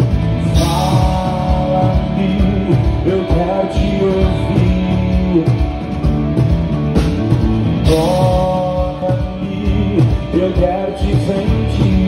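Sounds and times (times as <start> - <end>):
drum kit: 0.0 - 12.0
electric bass: 0.0 - 12.0
electric guitar: 0.0 - 12.0.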